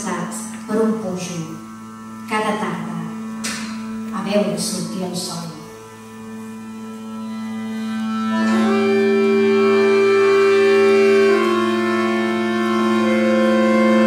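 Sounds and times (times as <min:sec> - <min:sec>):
accordion playing held chords: 0:00.0 - 0:14.0.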